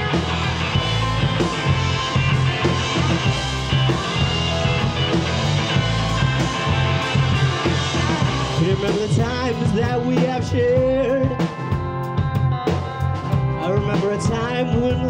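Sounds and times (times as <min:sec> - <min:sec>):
drum kit: 0:00.0 - 0:15.0
electric bass: 0:00.0 - 0:15.0
electric guitars: 0:00.0 - 0:15.0.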